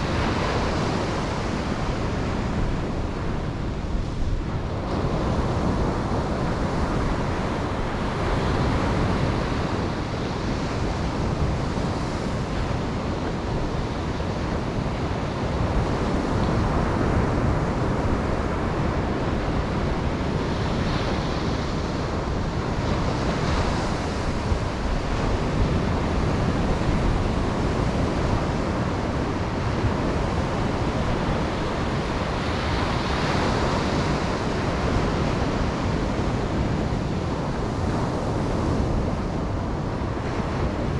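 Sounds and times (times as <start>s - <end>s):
low wind-like rumble: 0.0s - 40.9s
ocean waves breaking on beach: 0.0s - 40.9s.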